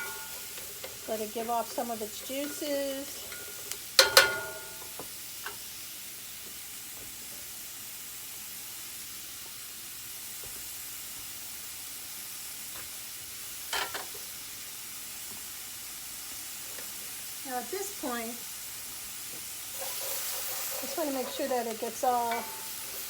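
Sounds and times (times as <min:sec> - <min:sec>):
mushrooms and onion sizzling in pan: 0:00.0 - 0:23.0.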